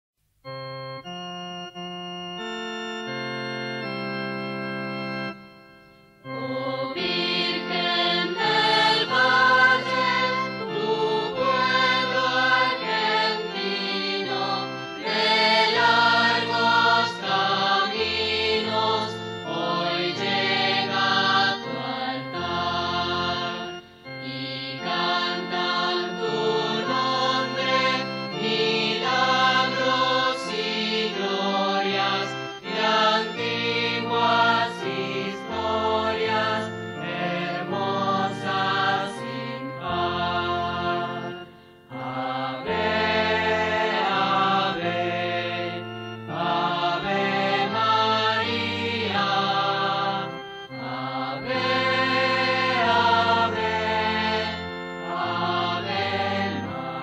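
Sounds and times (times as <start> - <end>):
hymn music: 0.4 - 57.0.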